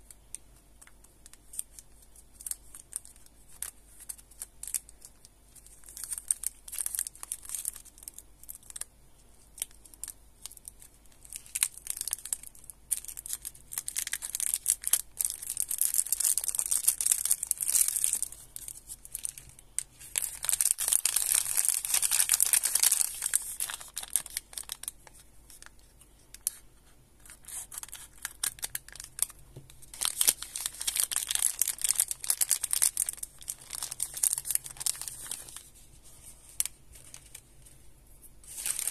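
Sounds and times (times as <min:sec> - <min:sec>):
plastic wrappers crinkling and tearing: 0:00.3 - 0:08.9, 0:09.5 - 0:26.6, 0:27.2 - 0:37.7, 0:38.4 - 0:38.9.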